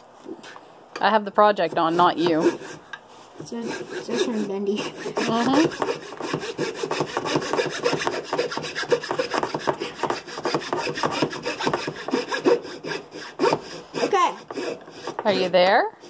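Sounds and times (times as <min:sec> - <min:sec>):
saw rasping through wood: 0:01.5 - 0:15.6.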